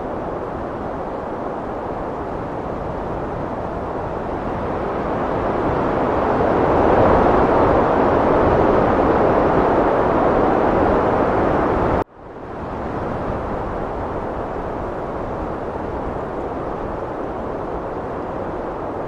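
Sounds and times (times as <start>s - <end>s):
heavy wind roaring: 0.0s - 19.0s.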